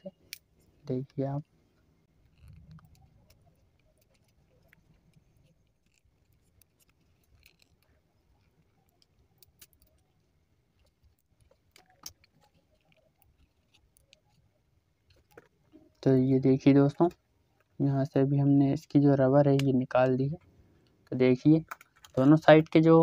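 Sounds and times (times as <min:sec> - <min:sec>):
faint clicks and scrapes: 0:00.0 - 0:16.2, 0:20.0 - 0:22.6.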